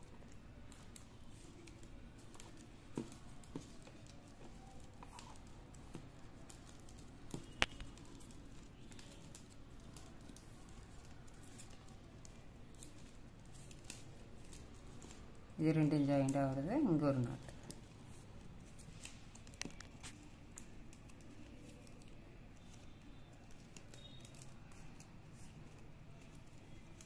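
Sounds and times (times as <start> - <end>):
plastic wire rustling: 0.0 - 27.0.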